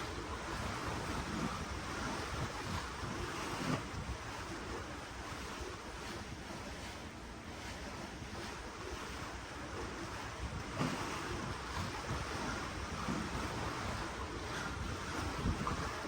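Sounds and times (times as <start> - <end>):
wind buffeting microphone: 0.0 - 7.0, 7.6 - 16.0
ocean water splashing: 0.0 - 16.0.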